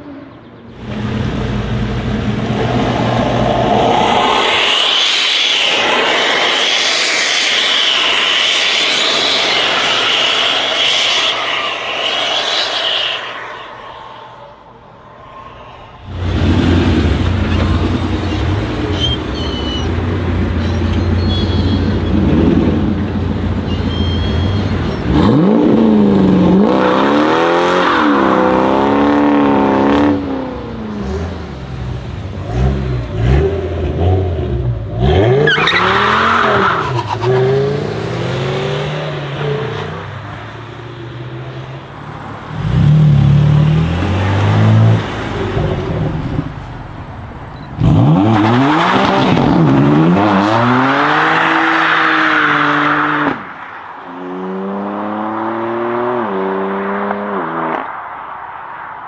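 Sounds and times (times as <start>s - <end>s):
sports car engines revving: 0.0s - 13.4s, 16.0s - 57.8s.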